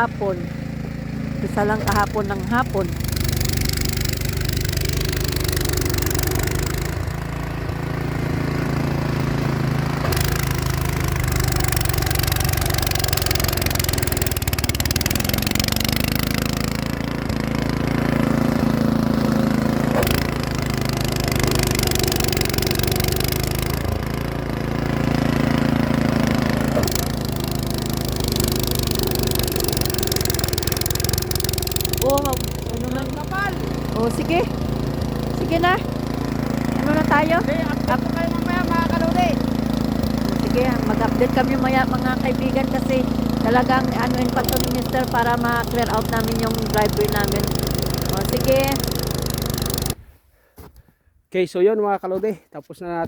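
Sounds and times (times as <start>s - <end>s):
snow thrower engine running: 0.0s - 50.0s.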